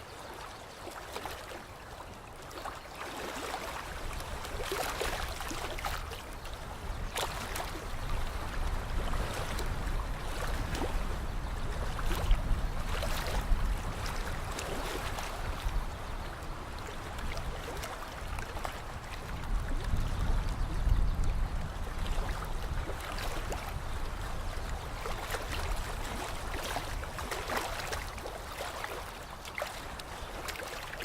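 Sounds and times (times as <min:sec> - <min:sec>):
small waves lapping: 0:00.0 - 0:31.0.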